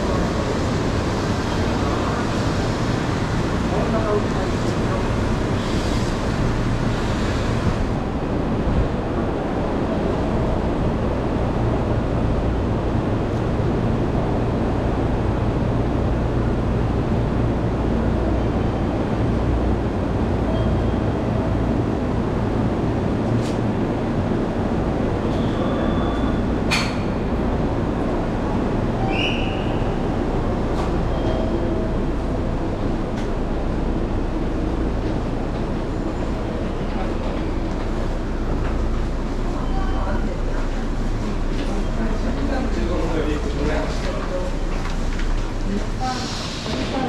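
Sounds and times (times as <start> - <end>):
passengers walking by: 0.0 - 47.0
trains humming and rumbling: 0.0 - 47.0.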